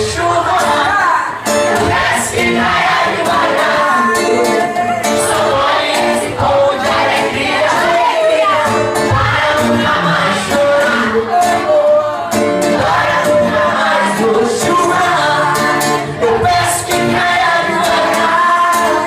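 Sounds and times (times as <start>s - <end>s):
live pop band music: 0.0s - 19.0s
person singing: 0.0s - 19.0s.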